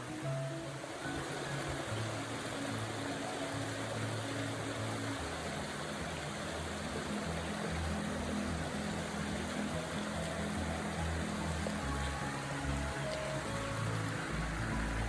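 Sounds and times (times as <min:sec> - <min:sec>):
music with low held notes: 0:00.0 - 0:15.0
running water: 0:00.0 - 0:15.0.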